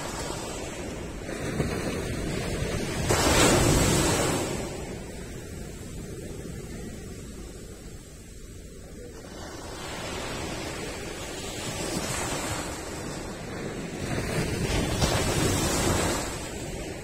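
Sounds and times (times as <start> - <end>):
waves washing up a beach: 0.0 - 17.0.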